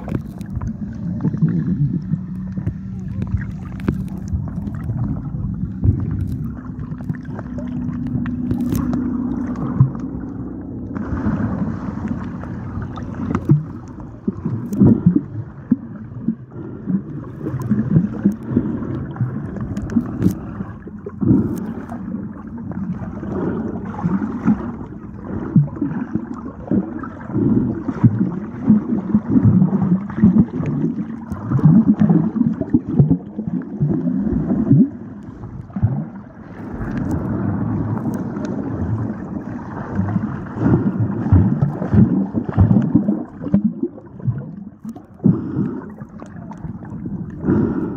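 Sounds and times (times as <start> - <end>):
underwater bubbles gurgling: 0.0 - 47.9.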